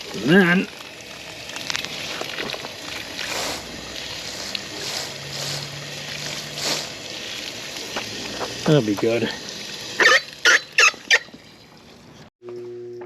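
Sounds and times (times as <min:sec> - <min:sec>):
water rushing and gurgling: 0:00.0 - 0:12.2.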